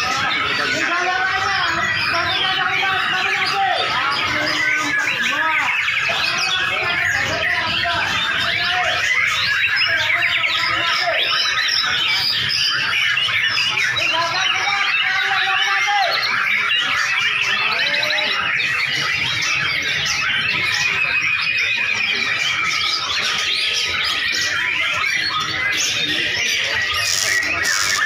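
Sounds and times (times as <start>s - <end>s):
songbirds singing in chorus: 0.0s - 28.0s.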